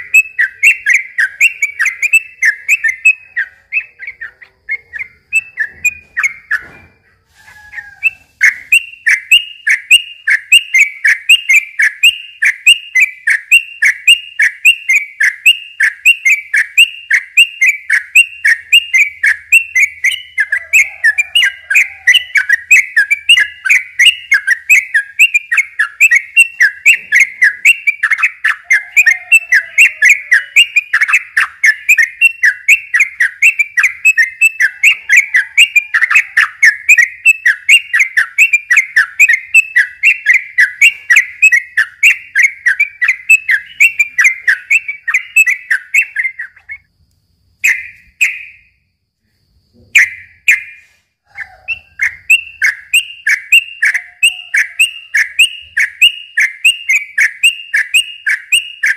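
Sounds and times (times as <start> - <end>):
bulbul singing whistled notes: 0.0 - 6.9, 7.5 - 46.9, 47.6 - 48.9, 49.7 - 58.9.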